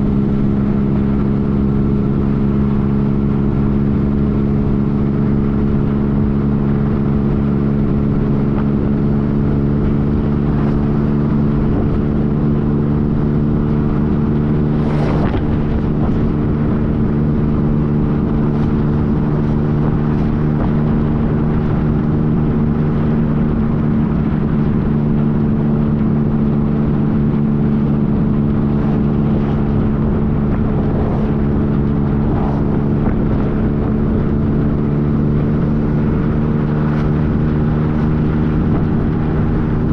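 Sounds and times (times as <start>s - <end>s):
low rushing noise: 0.0s - 39.9s
motorcycle engine running steadily: 0.0s - 39.9s.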